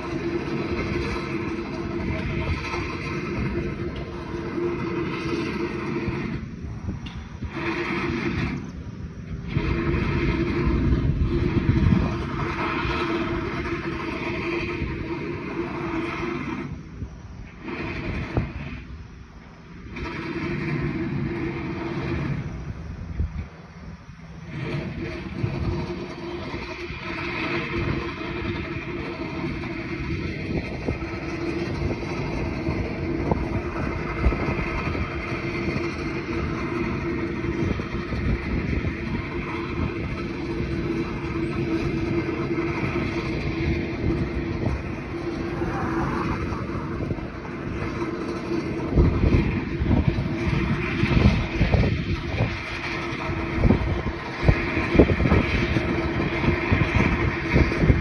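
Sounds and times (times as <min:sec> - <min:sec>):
track machinery engine drone: 0:00.0 - 0:58.0.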